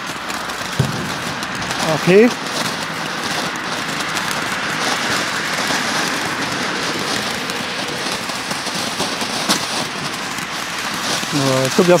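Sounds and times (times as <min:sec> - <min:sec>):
firework fountain hissing and crackling: 0:00.0 - 0:12.0
sharp firework crack: 0:00.0 - 0:12.0.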